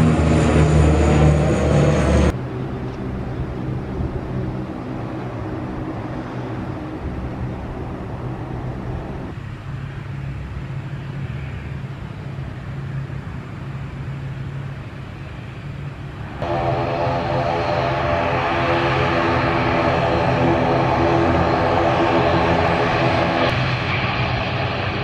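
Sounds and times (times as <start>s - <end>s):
turboprop aircraft engines droning: 0.0s - 25.0s.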